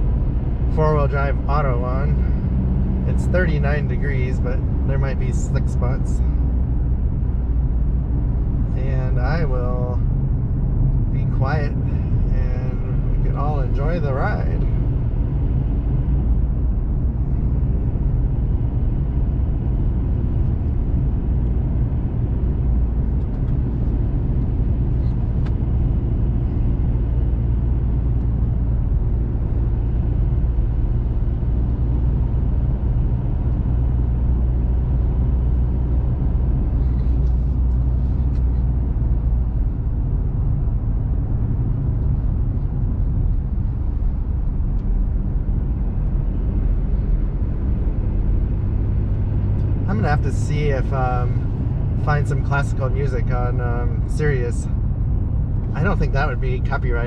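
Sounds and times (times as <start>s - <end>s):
road and engine rumble in cabin: 0.0s - 57.0s.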